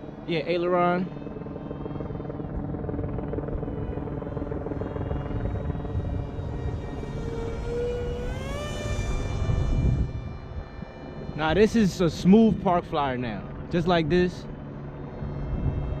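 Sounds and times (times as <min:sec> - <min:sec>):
electric motor and propeller whining: 0:00.0 - 0:16.0.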